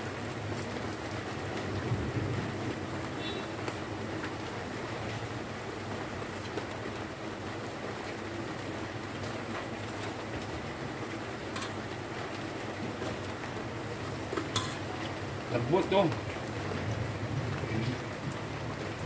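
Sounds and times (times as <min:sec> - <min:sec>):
steak sizzling on a grill: 0:00.0 - 0:19.0.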